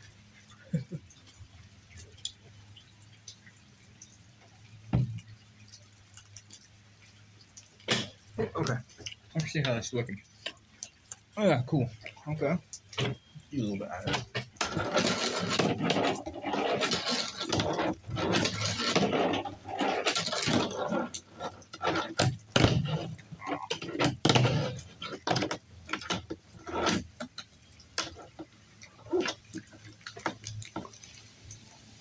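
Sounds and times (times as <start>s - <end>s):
rain hissing: 0.0s - 32.0s.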